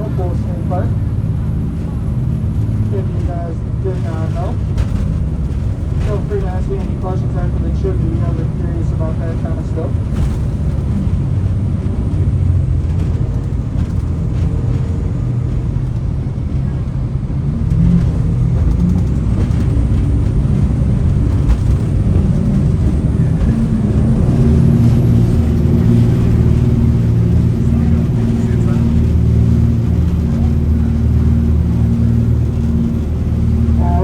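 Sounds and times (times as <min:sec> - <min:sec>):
boat engines droning: 0:00.0 - 0:34.0.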